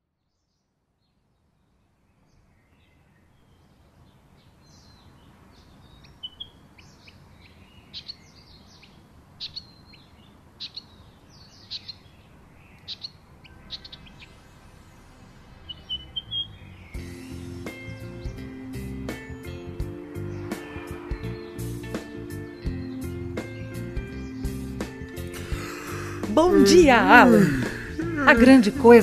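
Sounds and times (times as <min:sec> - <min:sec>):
steady background hiss: 0:01.9 - 0:22.6, 0:24.8 - 0:29.0
birds chirping: 0:02.1 - 0:29.0.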